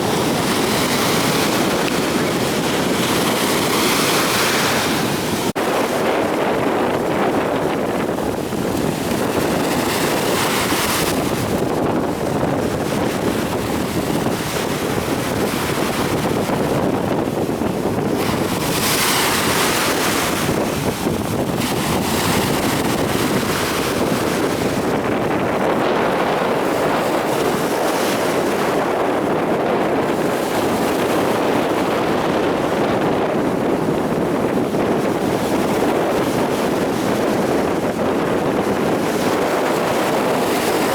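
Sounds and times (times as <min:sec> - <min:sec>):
waves breaking: 0:00.0 - 0:40.9
wind buffeting microphone: 0:00.0 - 0:40.9.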